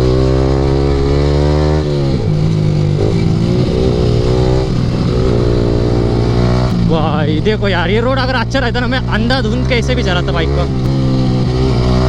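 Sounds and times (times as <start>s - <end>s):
motorcycle engine revving: 0.0s - 12.0s
rushing wind: 0.0s - 12.0s.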